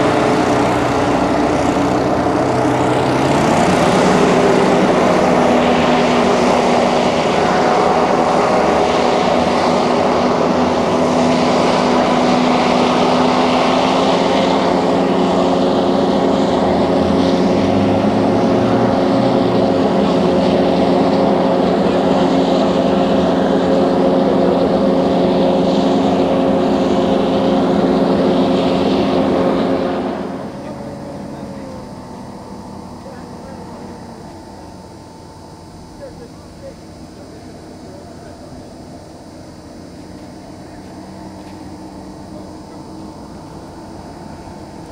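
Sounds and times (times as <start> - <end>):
hovercraft engines and propeller: 0.0 - 44.9.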